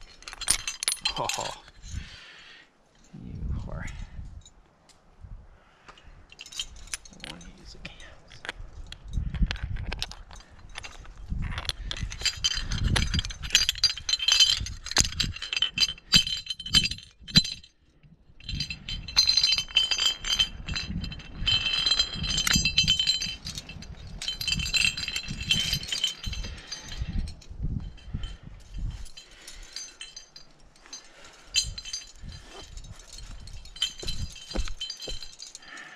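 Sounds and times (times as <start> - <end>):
carabiners clinking and jangling: 0.0 - 2.1, 5.9 - 35.9.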